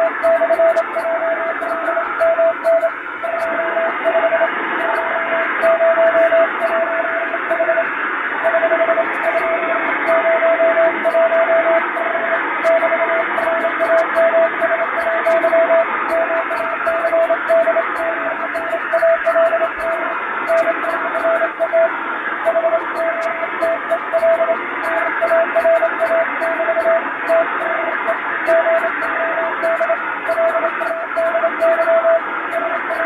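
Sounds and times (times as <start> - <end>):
morse code tone: 0.0 - 33.0
receiver hiss: 0.0 - 33.0.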